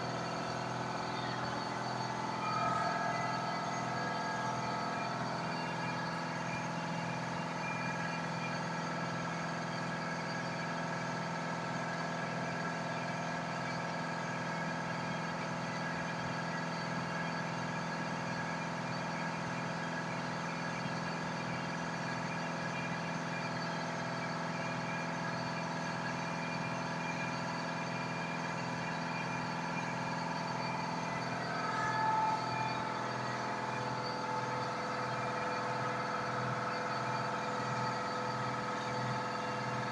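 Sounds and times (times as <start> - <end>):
laser engraver humming and whining: 0.0 - 39.9.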